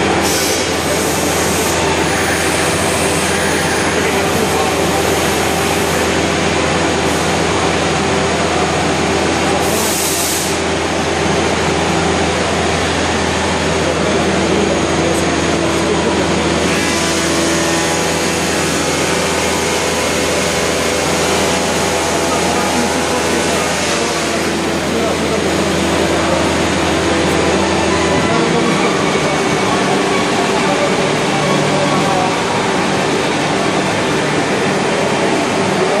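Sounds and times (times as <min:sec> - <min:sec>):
cnc router machining: 0:00.0 - 0:36.0.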